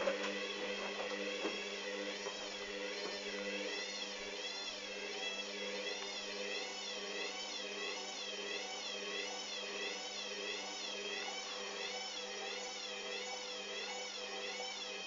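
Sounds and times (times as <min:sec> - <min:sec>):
washing machine motor whining: 0:00.0 - 0:15.0.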